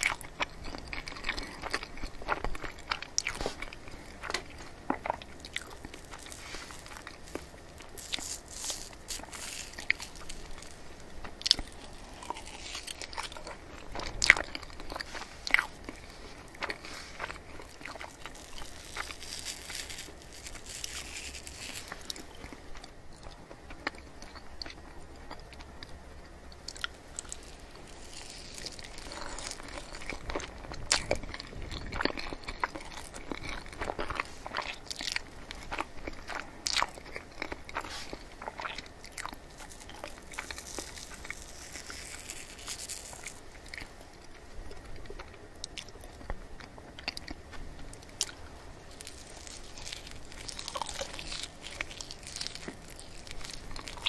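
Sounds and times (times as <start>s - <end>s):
close-miked chewing: 0.0s - 54.0s.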